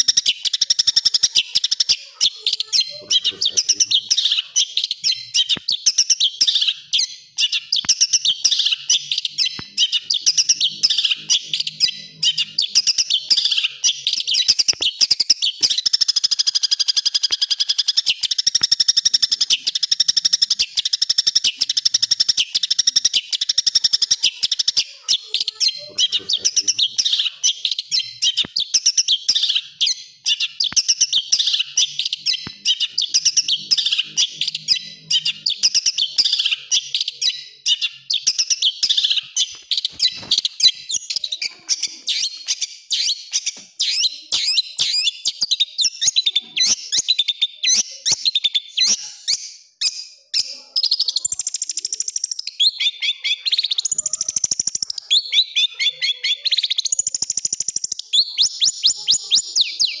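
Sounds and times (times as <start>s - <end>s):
bird singing rapid chirps and trills: 0.0s - 60.0s.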